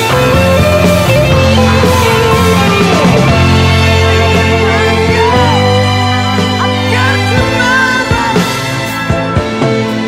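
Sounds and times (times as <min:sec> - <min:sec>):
rock band sustained notes: 0:00.0 - 0:10.0.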